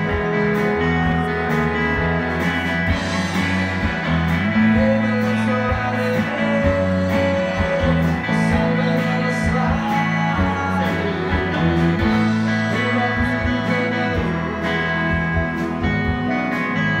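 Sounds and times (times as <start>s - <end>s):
electric bass: 0.0s - 17.0s
keyboard: 0.0s - 17.0s
person singing: 0.0s - 17.0s.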